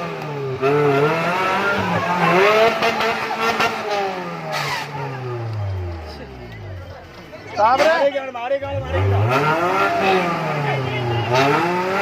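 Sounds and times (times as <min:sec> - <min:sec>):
off-road vehicle engine revving: 0:00.0 - 0:07.0, 0:07.6 - 0:12.0.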